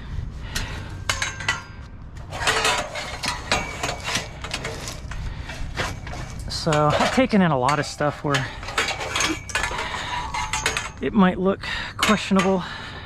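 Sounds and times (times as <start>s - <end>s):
scrap metal clattering: 0.5s - 13.0s.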